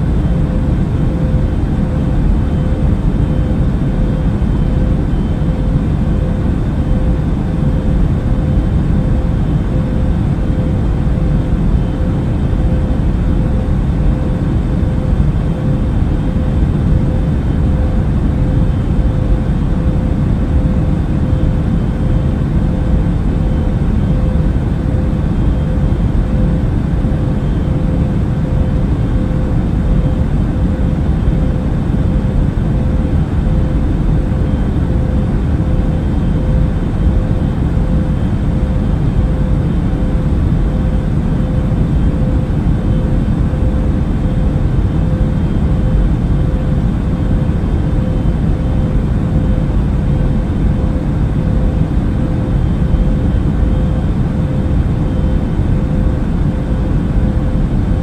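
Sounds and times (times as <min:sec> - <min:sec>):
airplane cabin engine rush: 0:00.0 - 0:58.0
constant hum tone: 0:00.0 - 0:58.0.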